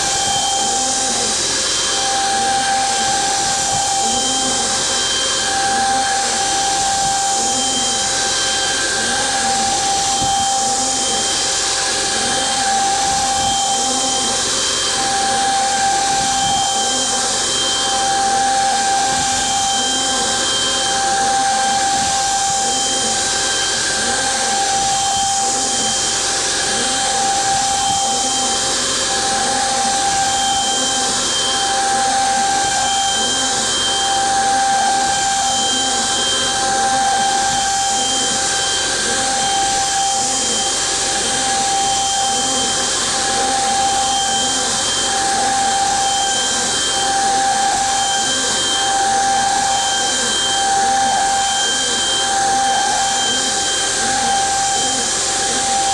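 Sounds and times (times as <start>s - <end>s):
router spindle whine: 0.0s - 55.9s.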